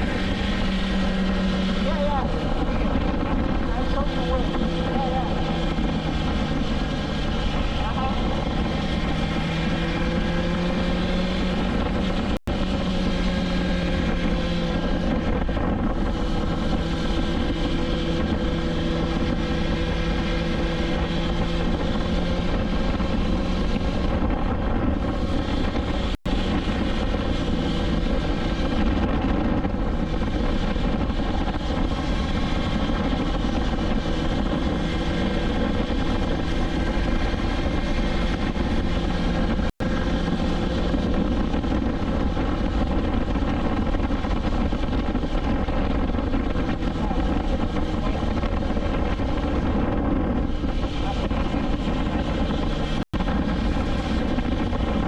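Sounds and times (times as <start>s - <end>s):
motorcycle engine cruising: 0.0s - 55.0s
wind rumble: 0.0s - 55.0s.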